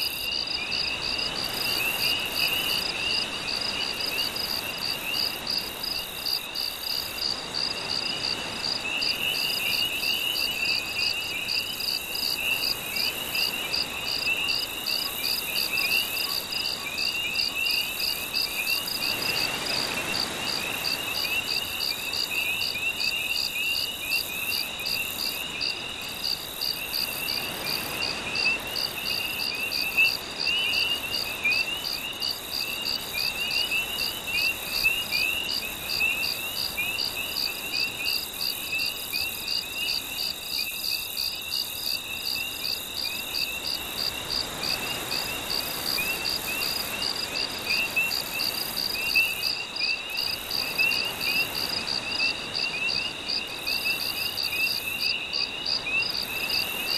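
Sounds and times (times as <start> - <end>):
lower chirps of frogs: 0.0 - 56.9.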